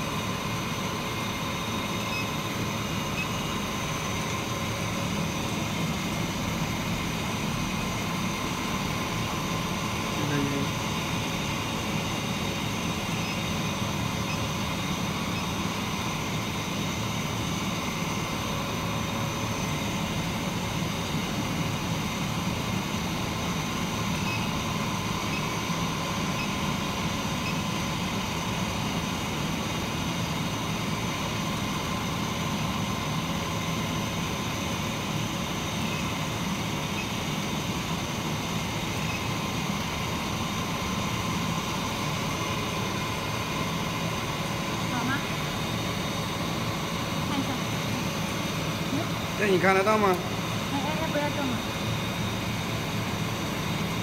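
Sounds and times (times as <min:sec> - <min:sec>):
cooling fan whirring: 0:00.0 - 0:54.0.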